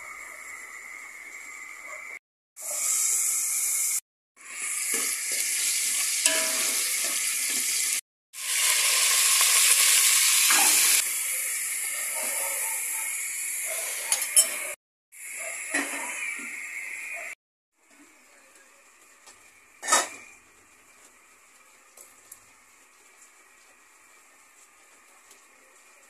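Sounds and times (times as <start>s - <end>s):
garlic and onion sizzling in oil: 0.0s - 26.0s
pork frying: 0.0s - 26.0s.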